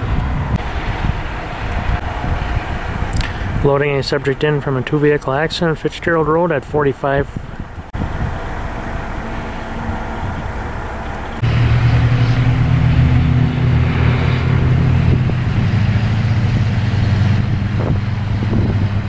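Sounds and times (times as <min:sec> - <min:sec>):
vehicle engine droning: 0:00.0 - 0:05.8, 0:07.4 - 0:19.0
wind or road noise: 0:00.0 - 0:19.0.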